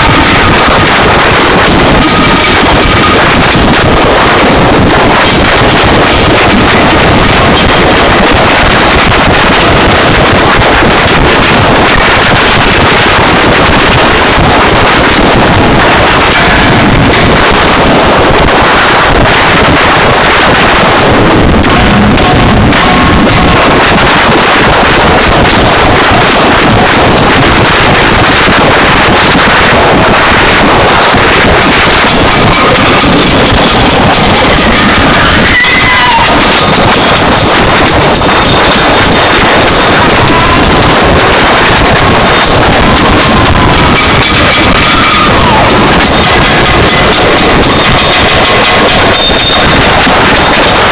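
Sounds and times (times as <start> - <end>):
distorted static noise music: 0.0 - 50.9.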